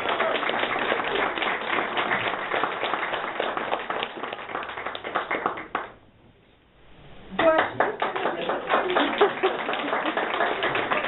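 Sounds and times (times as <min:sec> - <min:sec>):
audience applause: 0:00.0 - 0:05.9, 0:07.4 - 0:11.0.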